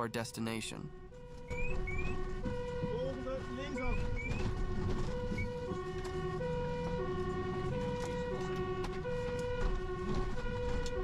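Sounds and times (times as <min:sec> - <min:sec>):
fire engine two-tone siren: 0:00.0 - 0:11.0
truck engine rumble: 0:00.0 - 0:11.0.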